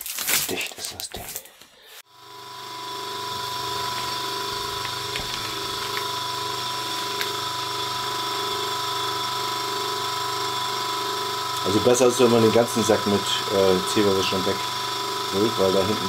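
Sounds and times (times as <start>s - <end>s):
electric vacuum pump running: 2.0s - 16.0s.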